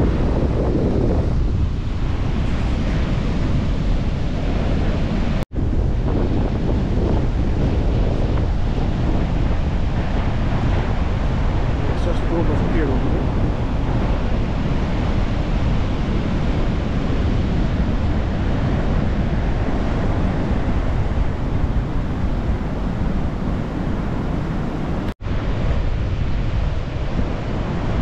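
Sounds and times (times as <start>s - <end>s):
waves breaking on beach: 0.0s - 28.0s
wind buffeting microphone: 0.0s - 28.0s.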